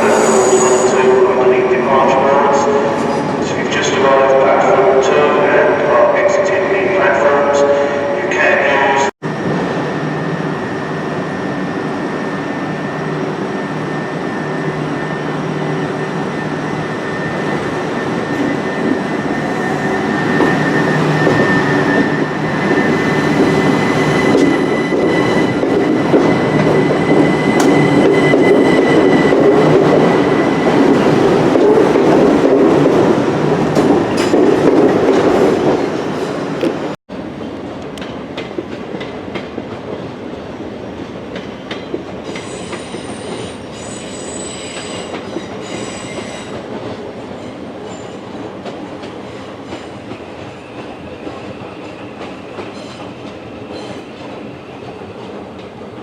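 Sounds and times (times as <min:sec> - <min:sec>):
train high whine and hum: 0:00.0 - 0:56.0.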